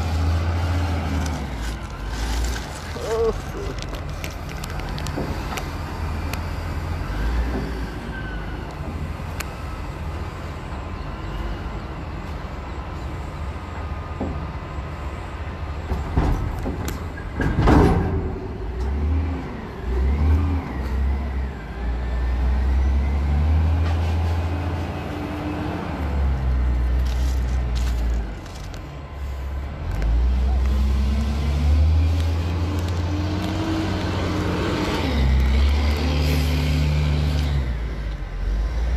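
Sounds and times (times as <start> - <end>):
diesel engine revving: 0.0 - 12.1, 17.8 - 38.9.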